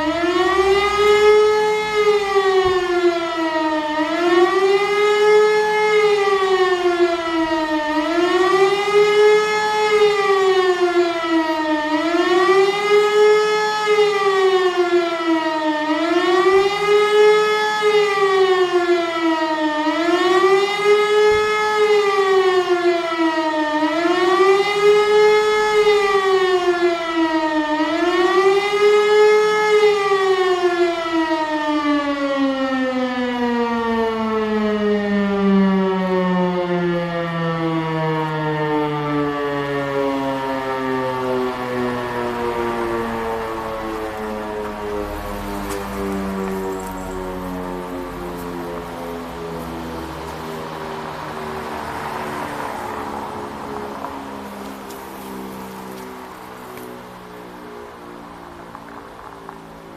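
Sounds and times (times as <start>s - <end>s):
civil defence siren wailing: 0.0s - 59.9s.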